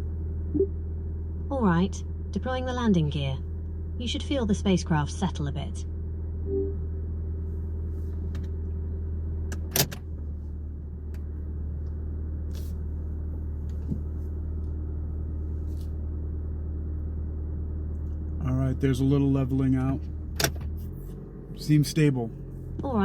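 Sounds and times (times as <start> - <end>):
vehicle cabin hum: 0.0 - 23.0.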